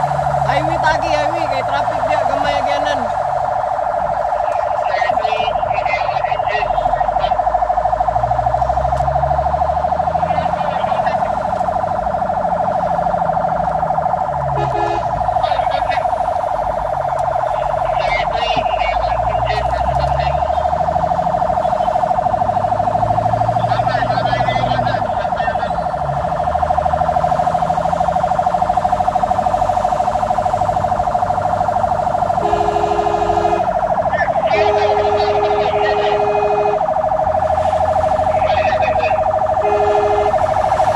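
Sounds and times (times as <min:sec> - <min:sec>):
fire engine siren pulsing: 0:00.0 - 0:40.9
truck engine droning: 0:00.0 - 0:40.9.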